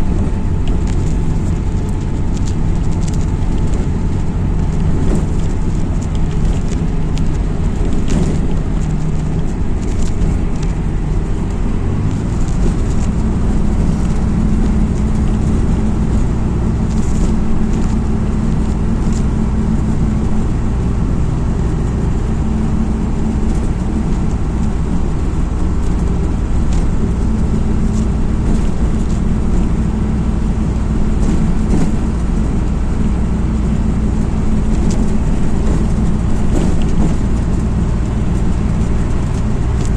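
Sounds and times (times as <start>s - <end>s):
bus diesel engine running: 0.0s - 39.9s
light rattles and clicks: 0.0s - 39.9s
road noise: 0.0s - 39.9s.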